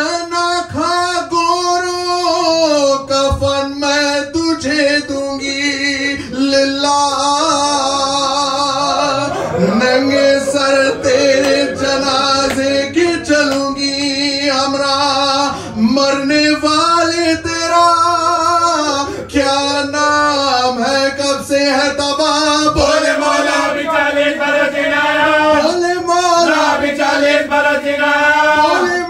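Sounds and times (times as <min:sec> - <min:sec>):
man chanting a lament: 0:00.0 - 0:29.0.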